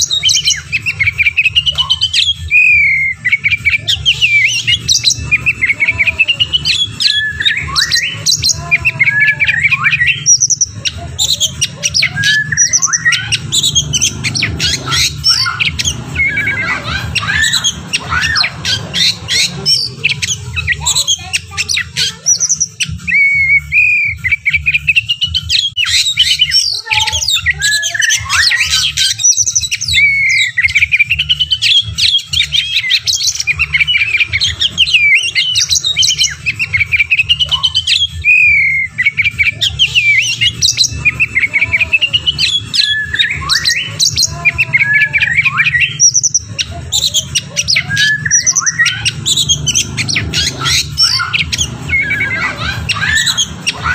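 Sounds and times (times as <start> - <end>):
songbirds singing: 0.0 - 53.9.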